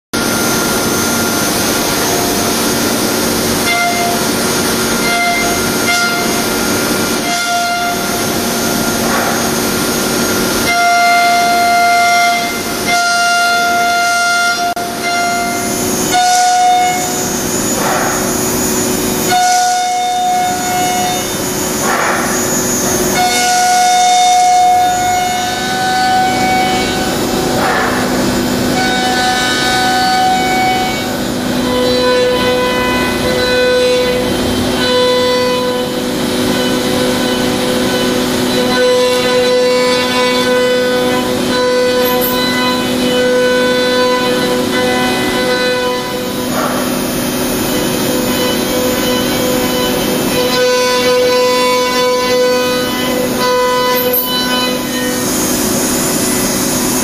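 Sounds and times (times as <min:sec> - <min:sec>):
milling machine high whine: 0:00.2 - 0:57.0.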